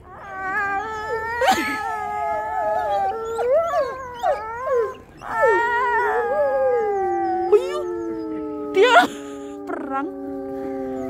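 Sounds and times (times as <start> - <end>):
wolves howling in chorus: 0.0 - 11.0.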